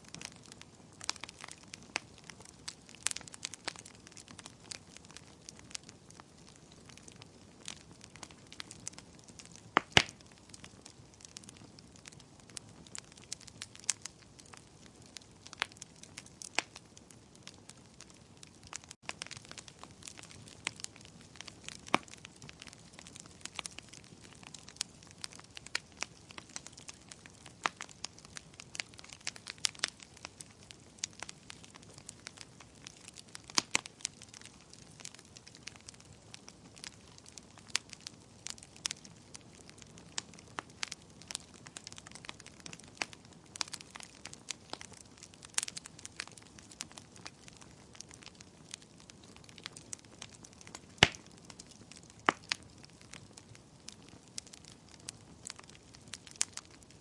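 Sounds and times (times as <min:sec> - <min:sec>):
burning wood crackling and popping: 0:00.0 - 0:57.0.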